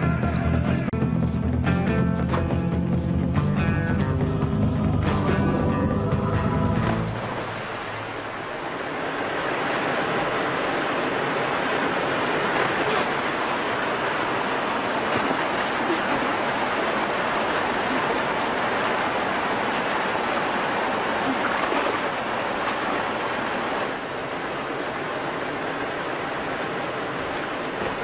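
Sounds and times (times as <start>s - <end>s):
river water rushing: 3.2s - 28.0s.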